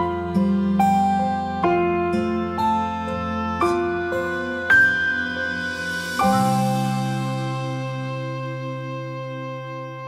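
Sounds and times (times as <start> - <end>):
gentle plucked-string melody: 0.0 - 10.0.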